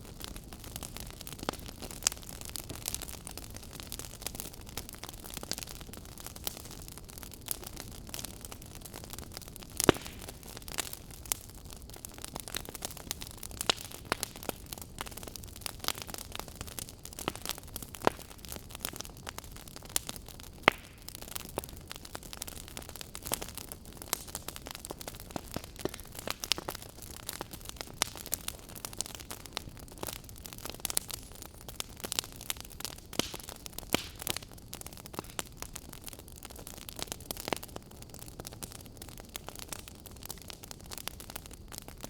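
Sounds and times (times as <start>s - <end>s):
fire crackling and popping: 0.0s - 42.0s.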